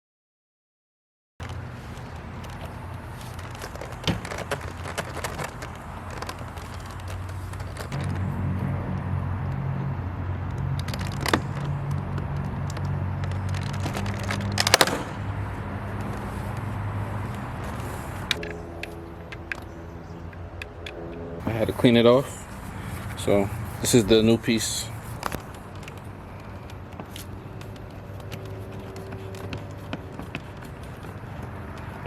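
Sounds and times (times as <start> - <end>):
car engine idling: 1.8 - 32.0.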